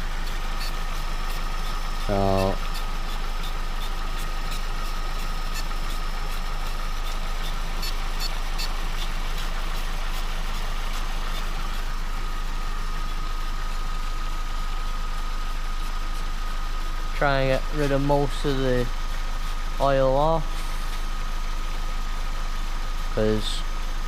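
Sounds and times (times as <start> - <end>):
thin steady high tone: 0.0 - 23.7
car engine idling: 0.0 - 24.0.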